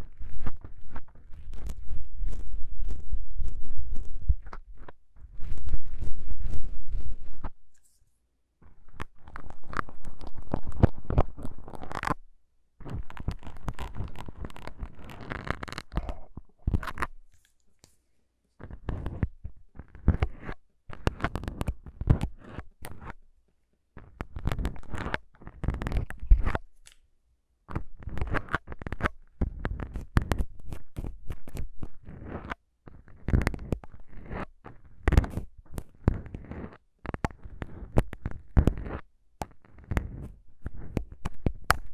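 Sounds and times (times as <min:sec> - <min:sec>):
crackly scratching and clicking: 0:00.0 - 0:41.9.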